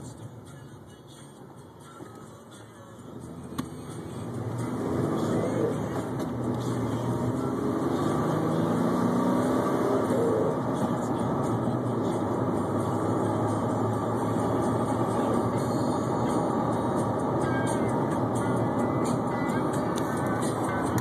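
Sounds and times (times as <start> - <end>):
car engine hum: 0.0 - 21.0
tyre and road noise: 0.0 - 21.0.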